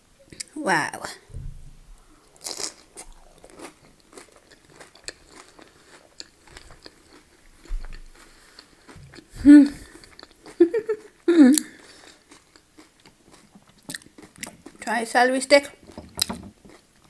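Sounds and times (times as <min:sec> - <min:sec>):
crunching and chewing chips: 0:02.2 - 0:17.0.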